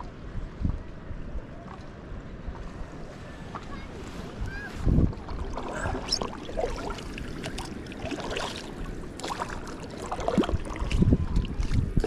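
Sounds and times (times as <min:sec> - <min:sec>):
water splashing and sloshing: 0:01.6 - 0:12.0.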